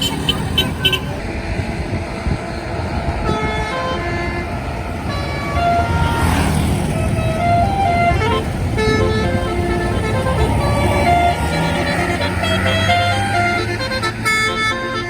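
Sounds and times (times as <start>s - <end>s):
bus horn playing a tune: 0.0s - 15.0s
heavy vehicle engine rumble: 0.0s - 15.0s
traffic noise: 0.0s - 15.0s.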